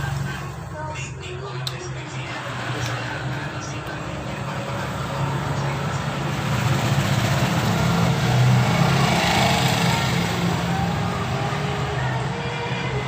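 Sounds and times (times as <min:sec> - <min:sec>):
small petrol engine running: 0:01.9 - 0:13.0.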